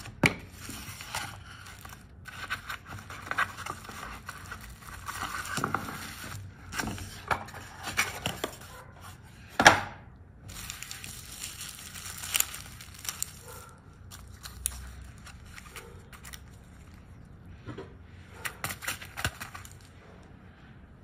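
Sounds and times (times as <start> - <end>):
packaging rustling and scraping: 0.0 - 9.4, 10.4 - 17.3, 18.3 - 20.2.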